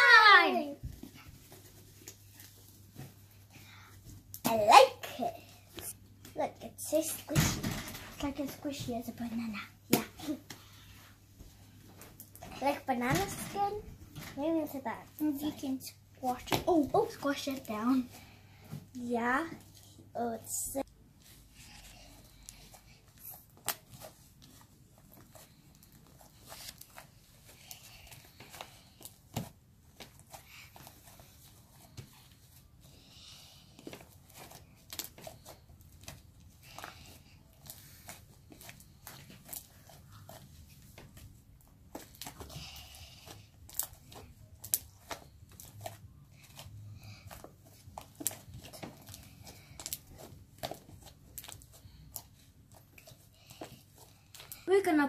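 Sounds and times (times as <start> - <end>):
hands kneading slime: 8.1 - 55.0.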